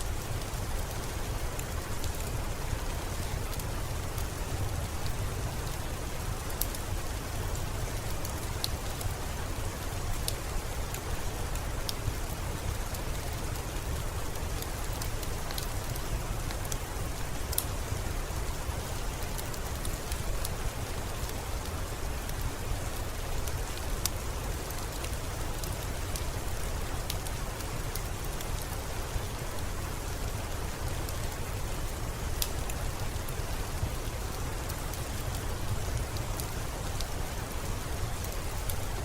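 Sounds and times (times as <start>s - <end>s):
raindrops ticking on surface: 0.0s - 39.0s
steady rain hiss: 0.0s - 39.0s.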